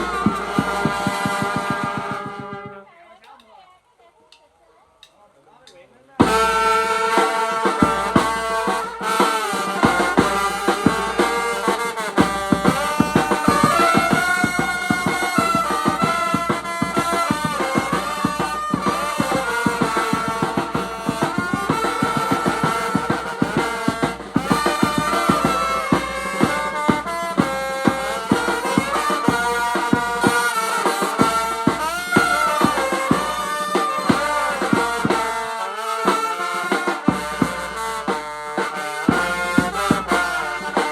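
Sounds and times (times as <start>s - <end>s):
fast dense drumming: 0.0s - 2.8s, 6.2s - 40.9s
wind instruments wavering melody: 0.0s - 2.8s, 6.2s - 40.9s.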